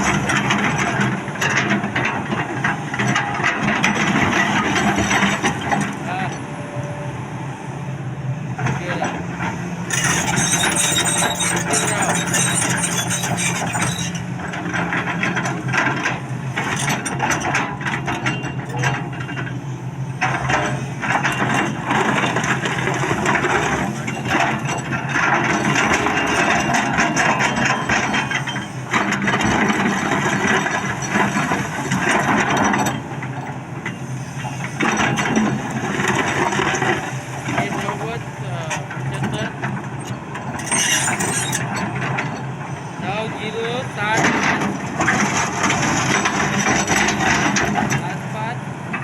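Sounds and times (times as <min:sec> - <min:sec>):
metal clanking and grinding: 0:00.0 - 0:07.0, 0:08.6 - 0:49.0
diesel engine running: 0:00.0 - 0:49.0.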